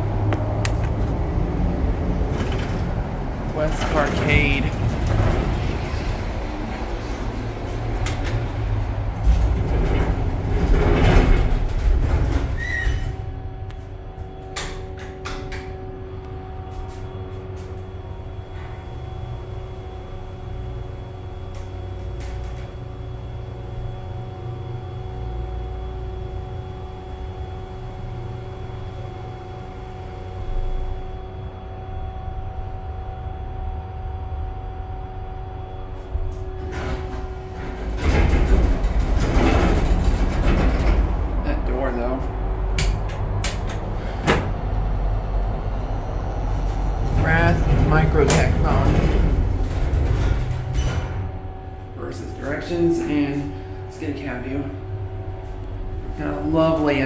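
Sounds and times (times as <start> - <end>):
elevator pump motor hum: 0.0 - 57.0.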